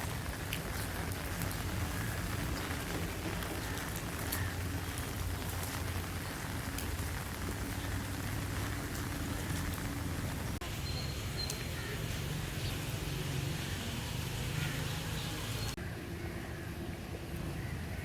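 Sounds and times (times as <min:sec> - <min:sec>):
heavy rain falling: 0:00.0 - 0:15.8.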